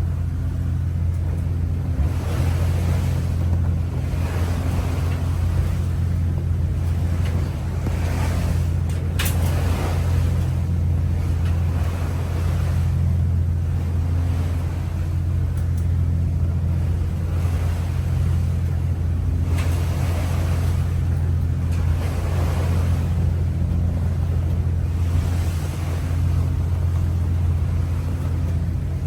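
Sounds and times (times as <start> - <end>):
boat engine droning: 0.0 - 29.0
rushing water: 0.0 - 29.0.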